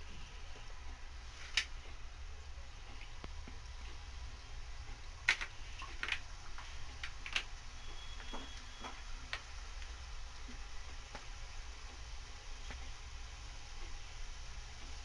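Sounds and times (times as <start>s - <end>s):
frying oil ticks and pops: 0.0s - 15.0s
low steady hum: 0.0s - 15.0s.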